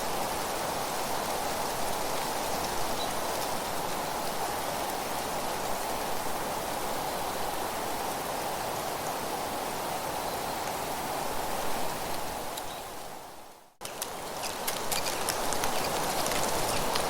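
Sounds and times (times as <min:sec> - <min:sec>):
steady rushing nature ambience: 0:00.0 - 0:17.0.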